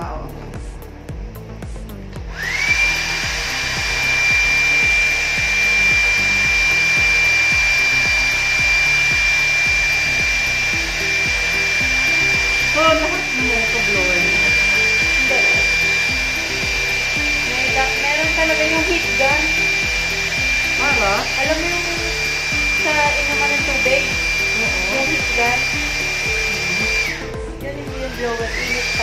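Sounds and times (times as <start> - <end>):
heat gun airflow rushing: 0.8 - 27.5
heat gun motor whine: 2.2 - 29.0.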